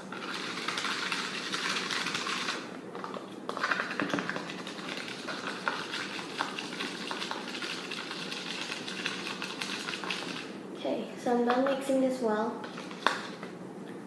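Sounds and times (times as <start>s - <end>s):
utensil stirring in container: 0.0s - 10.5s, 12.6s - 13.4s.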